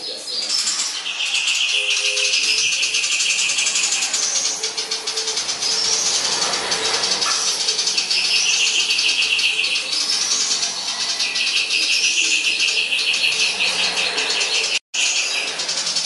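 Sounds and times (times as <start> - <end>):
songbird chattering song: 0.0 - 16.0.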